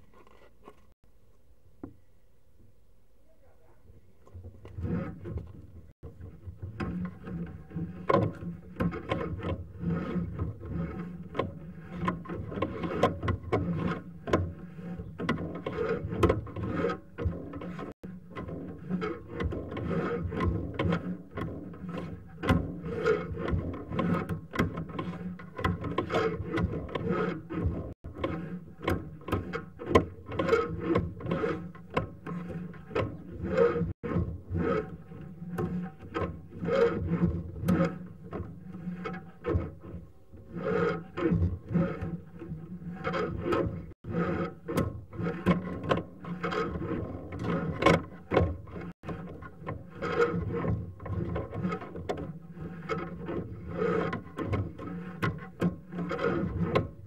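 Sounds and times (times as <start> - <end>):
cable scraping and rattling: 0.0 - 1.0, 4.2 - 57.0.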